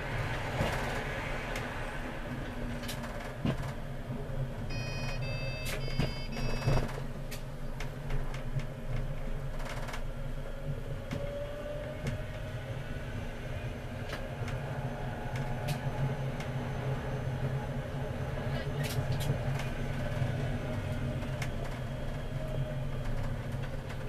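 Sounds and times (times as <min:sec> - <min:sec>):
tram wheels rumbling: 0:00.0 - 0:05.2, 0:06.0 - 0:24.0.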